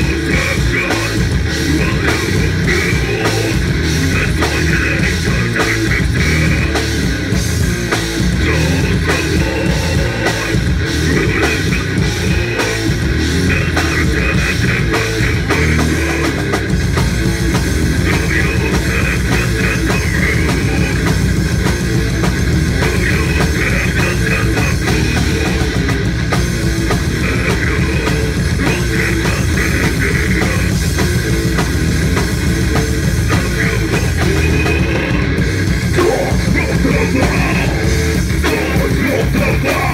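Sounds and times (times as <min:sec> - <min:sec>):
person singing into microphone: 0:00.0 - 0:07.0, 0:08.3 - 0:16.6, 0:18.0 - 0:21.3, 0:22.7 - 0:25.8, 0:27.1 - 0:31.4, 0:33.1 - 0:39.9
live heavy rock band: 0:00.0 - 0:39.9
pounding drum kit: 0:00.0 - 0:39.9.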